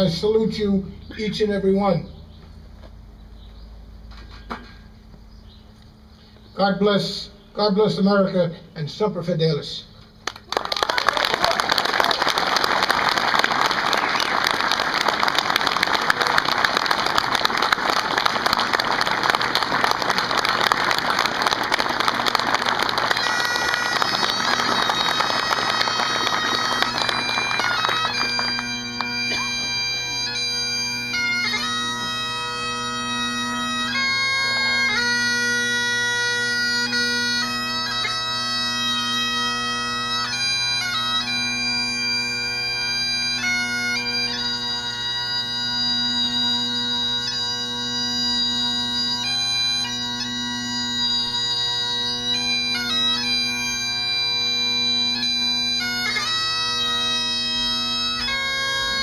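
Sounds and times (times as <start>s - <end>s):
bagpipes playing slow tune: 0.0s - 10.4s, 11.2s - 59.0s.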